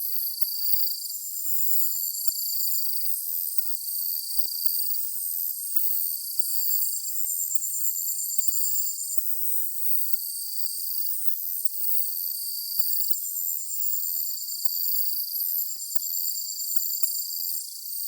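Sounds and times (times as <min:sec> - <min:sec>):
rapidly pulsing insect trill: 0:00.3 - 0:18.0.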